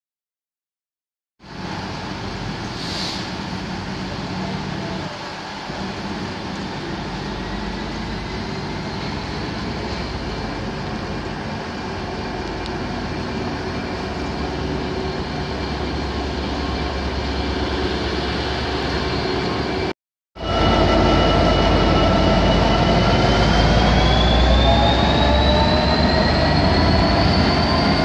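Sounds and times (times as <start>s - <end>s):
diesel locomotive engine: 1.4s - 28.0s.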